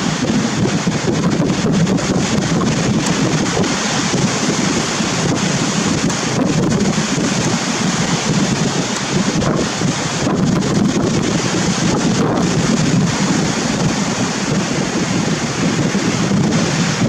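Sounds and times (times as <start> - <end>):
rough surf rushing: 0.0 - 17.0
wind buffeting microphone: 0.0 - 17.0.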